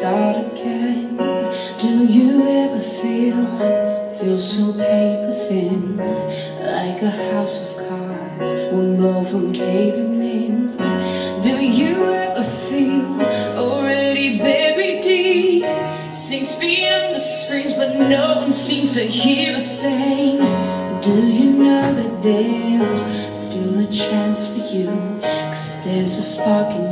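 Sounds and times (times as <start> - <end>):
woman singing: 0.0 - 26.9.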